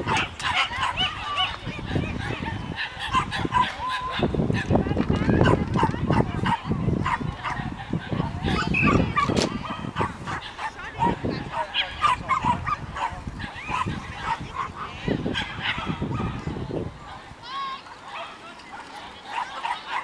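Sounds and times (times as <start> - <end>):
dogs barking and yelping: 0.0 - 17.2, 17.9 - 20.0.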